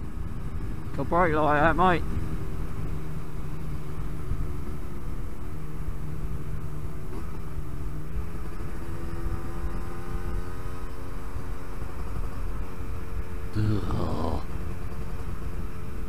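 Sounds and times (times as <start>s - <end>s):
two-stroke motorcycle engine running: 0.0s - 16.0s.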